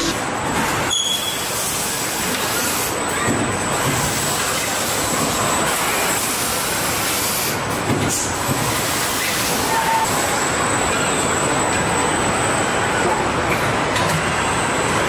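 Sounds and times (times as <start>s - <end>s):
assembly line mechanical noise: 0.0s - 15.0s.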